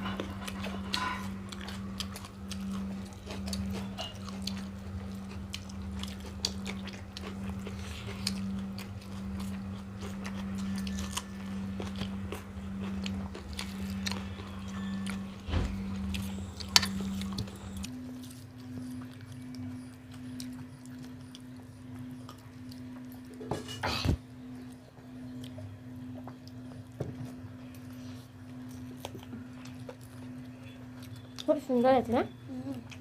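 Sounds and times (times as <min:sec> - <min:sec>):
people chewing: 0:00.0 - 0:31.8
steady low hum: 0:00.0 - 0:33.0.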